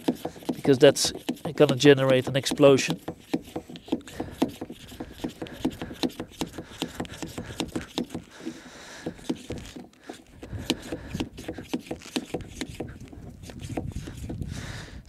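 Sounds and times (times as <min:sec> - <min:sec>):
hand pump inflating tyre: 0:00.0 - 0:15.0.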